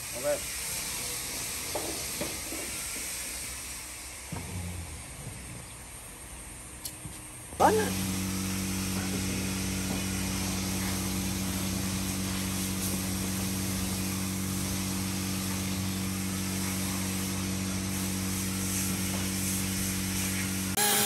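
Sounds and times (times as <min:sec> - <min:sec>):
low machine hum: 0:03.9 - 0:21.0.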